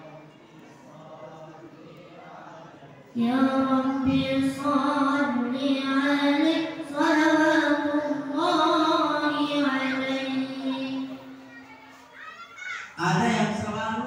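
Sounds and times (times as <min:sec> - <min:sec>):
boy singing devotional chant: 0:00.0 - 0:11.7.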